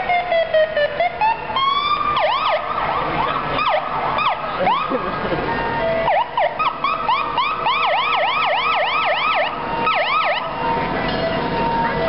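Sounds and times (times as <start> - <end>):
siren yelping: 0.0 - 12.0.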